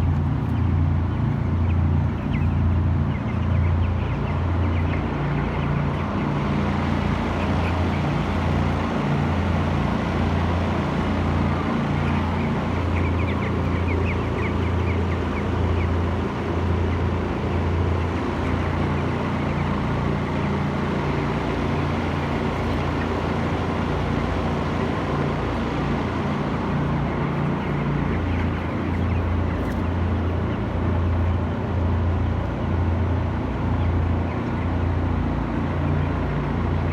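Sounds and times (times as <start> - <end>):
low machine hum: 0.0 - 36.9
chicks chirping: 0.4 - 31.6.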